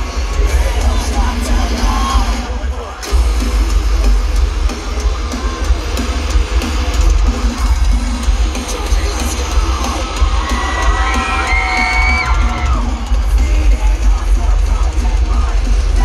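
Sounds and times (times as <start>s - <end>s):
crowd yelling: 0.0s - 16.0s
live band playing loudly: 0.0s - 16.0s.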